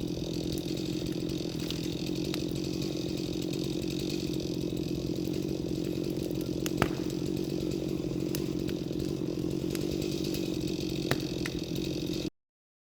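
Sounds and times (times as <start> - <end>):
chainsaw engine running: 0.0 - 12.3.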